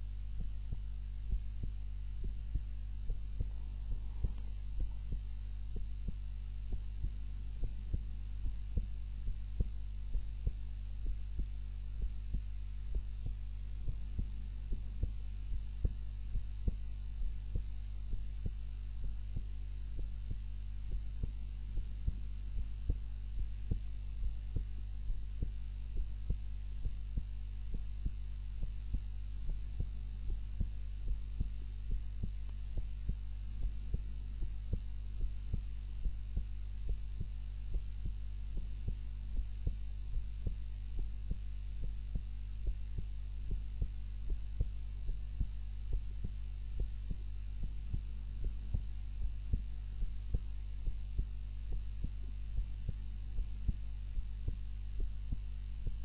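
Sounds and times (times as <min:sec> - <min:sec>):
heartbeat thumps: 0:00.0 - 0:56.0
steady low hum: 0:00.0 - 0:56.0.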